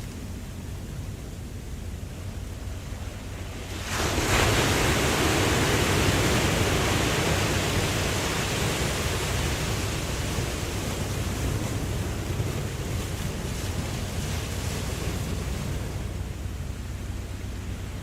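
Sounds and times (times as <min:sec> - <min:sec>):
low rumble of sea: 0:00.0 - 0:18.0
ocean wave breaking: 0:02.6 - 0:18.0.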